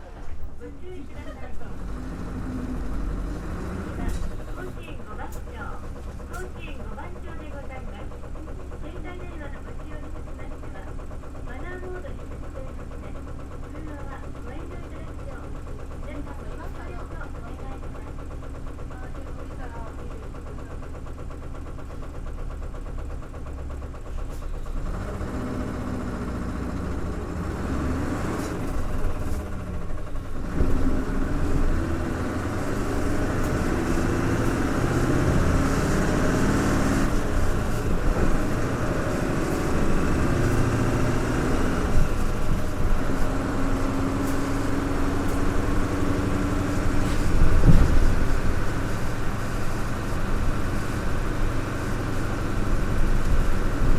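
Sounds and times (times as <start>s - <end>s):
bus diesel engine: 0.0s - 53.9s.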